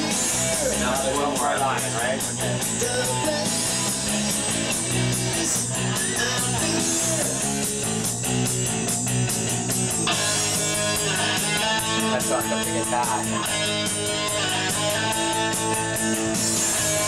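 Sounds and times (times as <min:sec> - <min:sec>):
rock song over monitors: 0:00.0 - 0:17.0.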